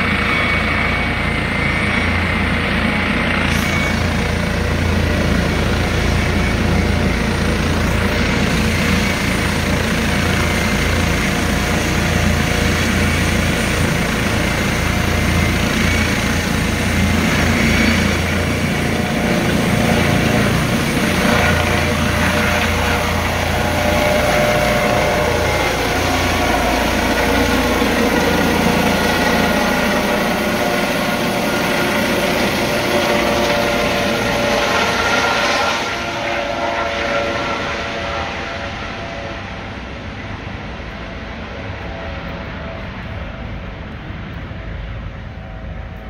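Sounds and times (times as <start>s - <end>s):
deep rotor rumble: 0.0s - 46.0s
helicopter turbine whine: 0.0s - 46.0s.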